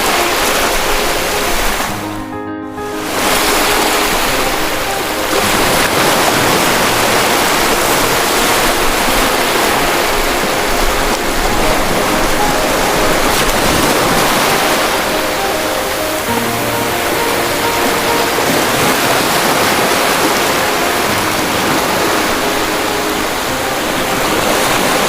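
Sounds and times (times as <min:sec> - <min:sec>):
waves breaking: 0:00.0 - 0:25.0.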